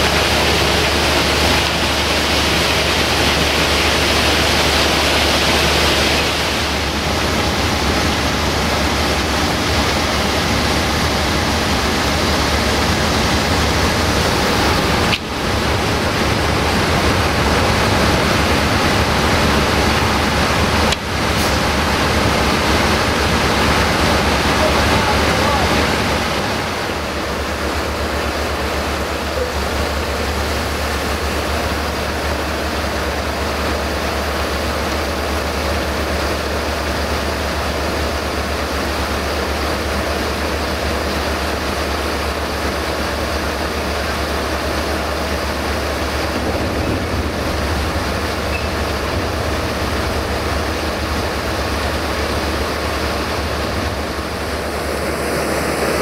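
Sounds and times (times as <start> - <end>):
grain rushing through auger: 0.0 - 56.0
tractor engine running: 0.0 - 56.0.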